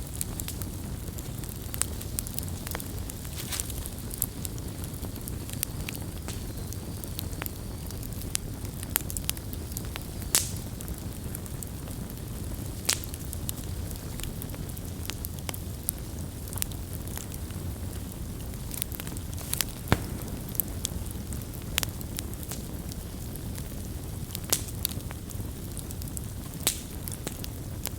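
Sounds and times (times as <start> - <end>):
campfire rumbling: 0.0 - 27.9
wood crackling and popping: 0.0 - 27.9.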